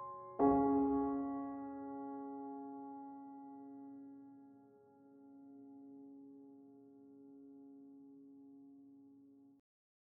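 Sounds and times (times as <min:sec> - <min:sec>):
piano chord ringing: 0:00.0 - 0:08.1.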